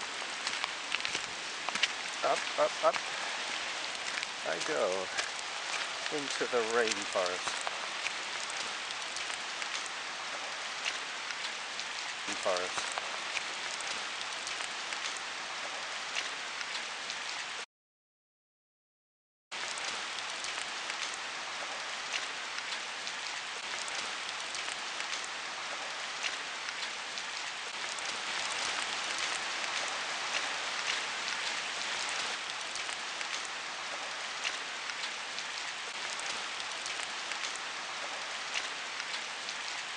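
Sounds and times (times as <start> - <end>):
heavy rain falling: 0.0 - 17.6, 19.6 - 39.9
raindrops ticking close by: 0.0 - 17.6, 19.5 - 39.9.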